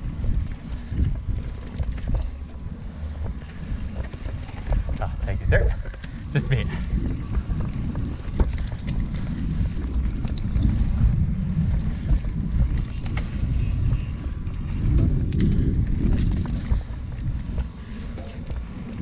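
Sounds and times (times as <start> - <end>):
bike drivetrain clicks and rattles: 0.0 - 19.0
bike tyres rumbling over dirt: 0.0 - 19.0
wind buffeting microphone: 0.0 - 19.0.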